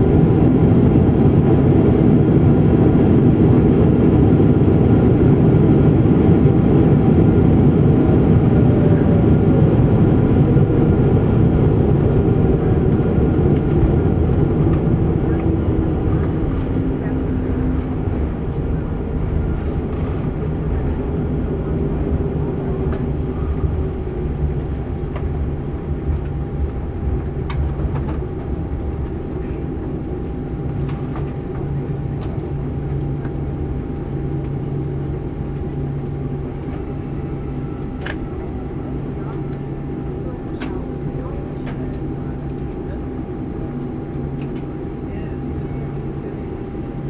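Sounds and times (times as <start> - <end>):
low rumble of wheels and engines: 0.0 - 47.0.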